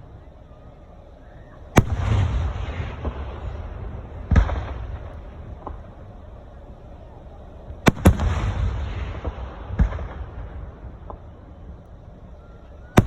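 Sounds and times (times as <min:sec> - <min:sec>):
fireworks bangs: 0:00.0 - 0:13.0
low rolling rumble: 0:00.0 - 0:13.0
sharp firework cracks: 0:01.4 - 0:12.2.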